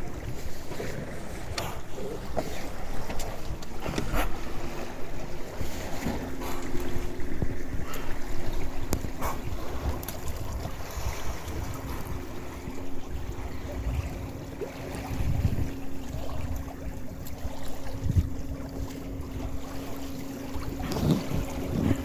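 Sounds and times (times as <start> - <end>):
steady low hum: 0.0 - 22.0
water washing along hull: 0.0 - 22.0
wave slaps: 0.0 - 22.0
wind buffeting microphone: 0.0 - 22.0.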